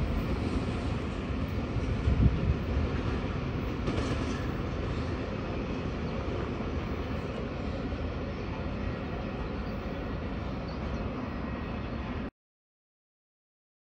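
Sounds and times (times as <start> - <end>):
freight train wheels rumbling: 0.0 - 12.3.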